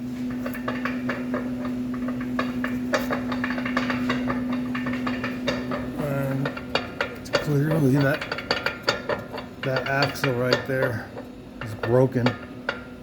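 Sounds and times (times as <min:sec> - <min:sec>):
steady hum: 0:00.0 - 0:13.0
metallic clicking and clanking: 0:00.3 - 0:13.0.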